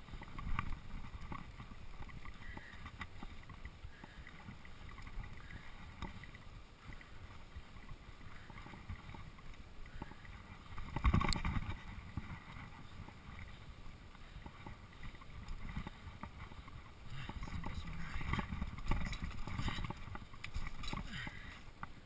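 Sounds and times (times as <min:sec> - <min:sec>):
bike rattling over bumps: 0:00.0 - 0:22.0
bike tyres crunching on dirt: 0:00.0 - 0:22.0.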